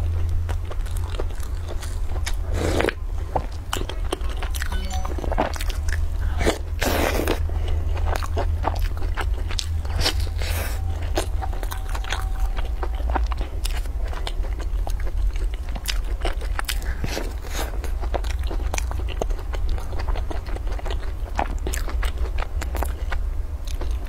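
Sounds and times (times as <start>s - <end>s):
crunchy chewing: 0.0s - 4.8s, 5.4s - 24.0s
steady low hum: 0.0s - 24.0s.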